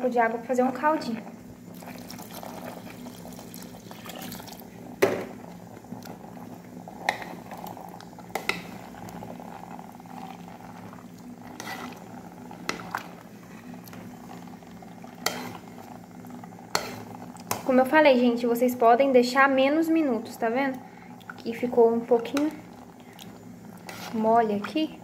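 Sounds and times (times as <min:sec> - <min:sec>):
beans bubbling in a pot: 0:00.0 - 0:25.0.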